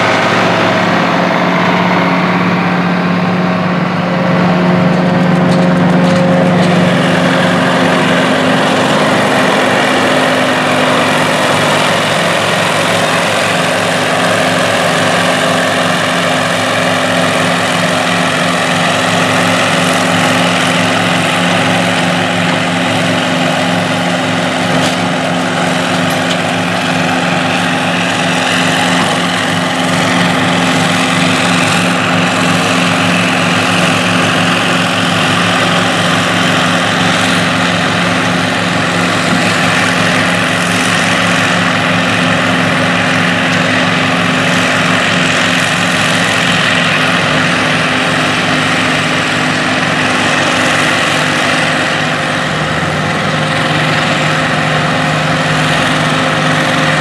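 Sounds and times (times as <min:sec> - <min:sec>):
dense whir of cutterhead: 0:00.0 - 0:57.0
diesel engine under load: 0:00.0 - 0:57.0
tractor engine running: 0:00.0 - 0:57.0.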